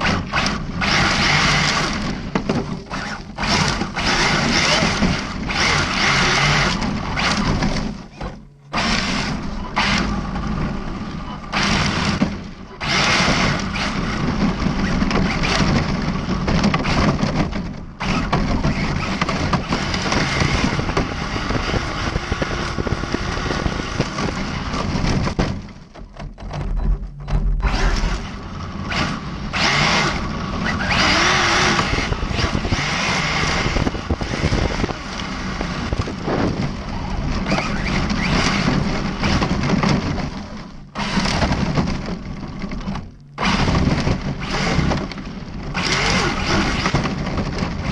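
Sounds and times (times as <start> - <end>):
rc car driving over gravel: 0.0 - 25.8, 27.5 - 47.9.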